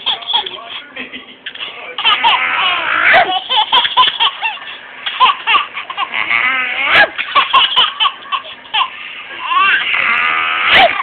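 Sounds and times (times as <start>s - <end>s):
baby laughing: 0.0s - 11.0s.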